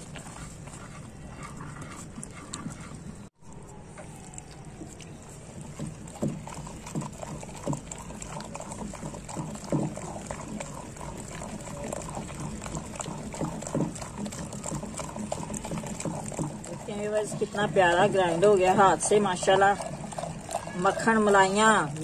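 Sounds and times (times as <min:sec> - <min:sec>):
wet squelches of mashing greens: 0:00.0 - 0:22.0.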